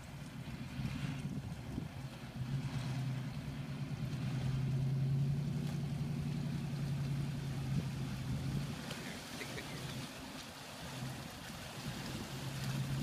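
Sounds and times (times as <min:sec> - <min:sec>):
truck engine at low revs: 0:00.0 - 0:13.0
water washing around tyres: 0:00.0 - 0:13.0.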